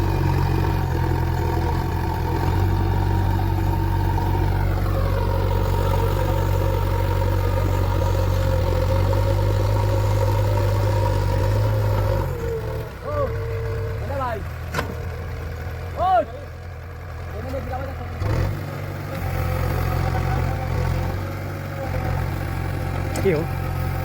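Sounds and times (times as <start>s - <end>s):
diesel engine running: 0.0s - 24.0s
engine whine: 0.0s - 24.0s.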